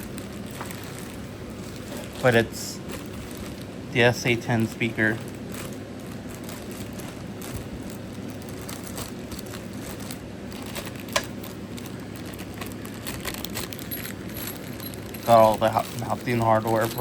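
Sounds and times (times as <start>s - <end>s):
low steady hum: 0.0s - 17.0s
packaging rustling: 0.0s - 17.0s.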